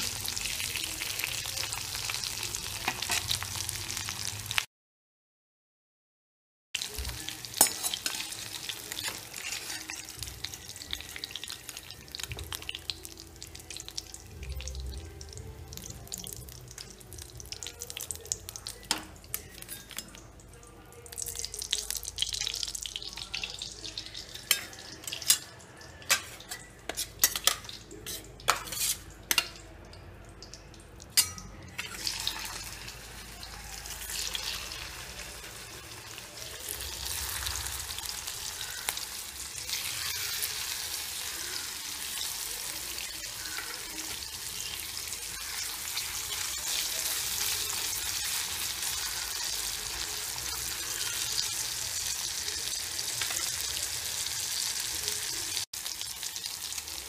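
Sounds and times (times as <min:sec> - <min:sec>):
chicken sizzling in hot oil: 0:00.0 - 0:04.7, 0:06.8 - 0:20.1, 0:21.0 - 0:29.6, 0:31.2 - 0:57.0.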